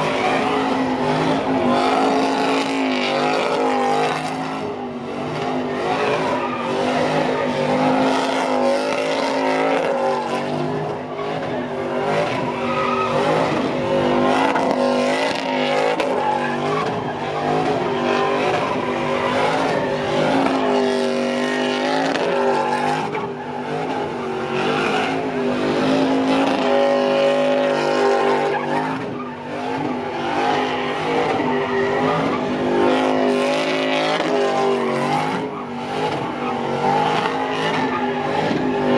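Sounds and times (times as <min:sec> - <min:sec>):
tires squealing: 0:00.0 - 0:38.9
truck engine revving hard: 0:00.0 - 0:38.9.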